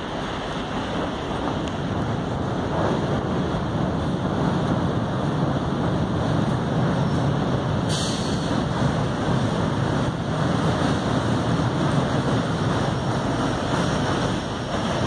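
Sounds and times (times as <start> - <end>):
freight train rumbling over bridge: 0.0 - 15.0.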